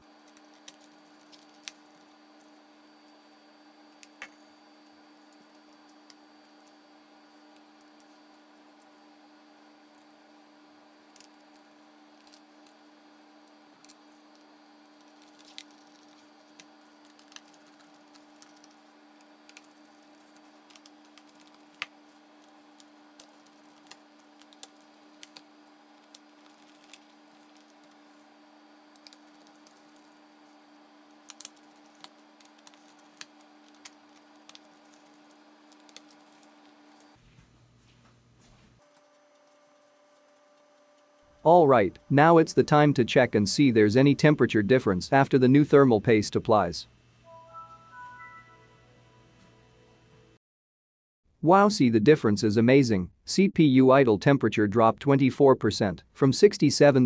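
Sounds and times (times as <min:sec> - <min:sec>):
faint steady hum: 0:00.0 - 0:50.4.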